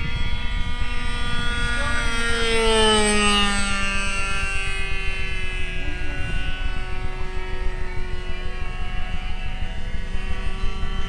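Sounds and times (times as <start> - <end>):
model airplane engine at high revs: 0.0 - 11.0.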